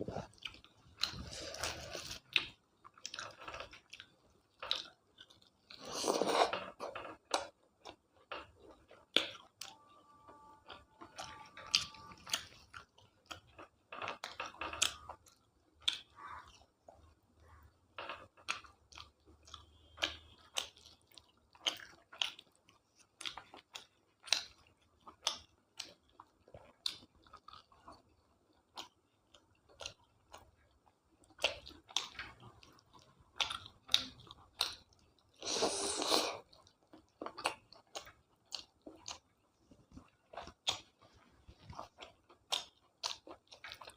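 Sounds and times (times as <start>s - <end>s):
person chewing wetly: 0.0s - 43.9s.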